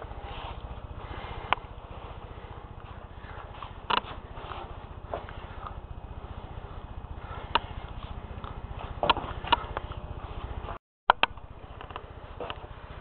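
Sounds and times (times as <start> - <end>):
mechanism humming: 0.0 - 13.0.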